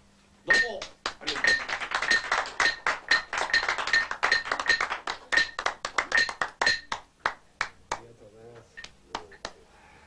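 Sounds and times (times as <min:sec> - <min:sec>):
sharp ringing claps: 0:00.5 - 0:08.1, 0:08.7 - 0:09.6.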